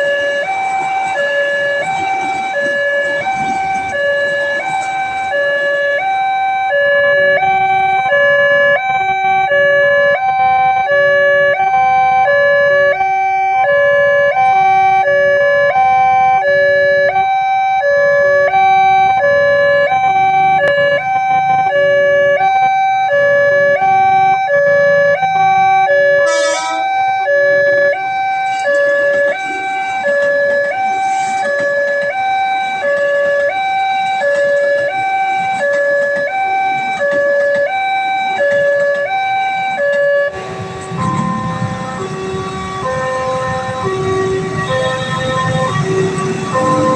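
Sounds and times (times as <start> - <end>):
lower alarm tone: 0.0 - 46.9
two-tone crossing alarm: 0.0 - 46.9.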